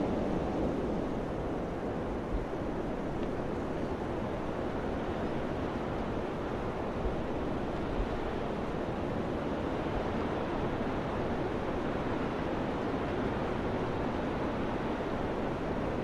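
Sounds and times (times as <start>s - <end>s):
steady wind blowing: 0.0s - 16.0s.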